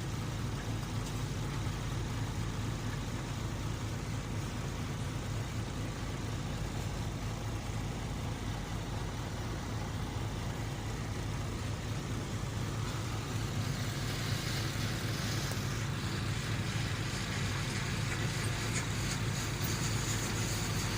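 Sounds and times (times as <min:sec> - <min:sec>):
heavy machinery engine humming: 0:00.0 - 0:20.9
loud hiss: 0:01.8 - 0:20.9.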